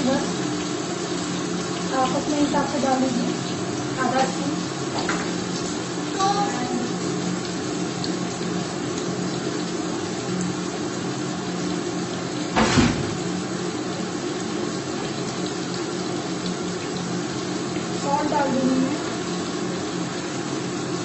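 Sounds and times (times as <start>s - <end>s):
masala sizzling in a pan: 0.0s - 21.0s.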